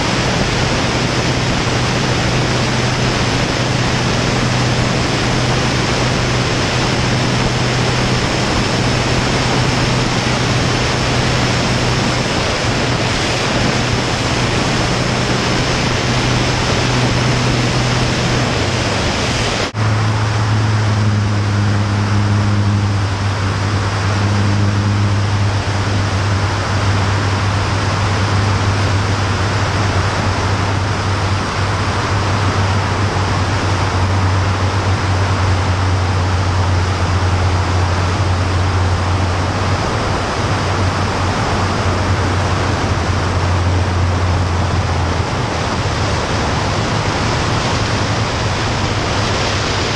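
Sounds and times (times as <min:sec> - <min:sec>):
propeller aircraft engine droning: 0:00.0 - 0:49.9
wind rush on microphone: 0:00.0 - 0:49.9.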